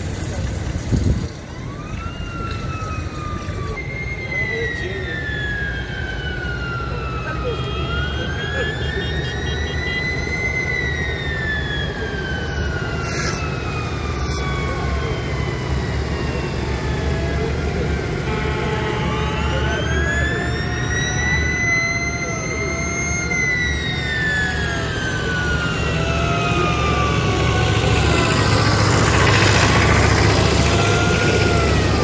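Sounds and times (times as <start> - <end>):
siren wailing: 0.0 - 32.0
tractor engines rumbling: 0.0 - 32.0.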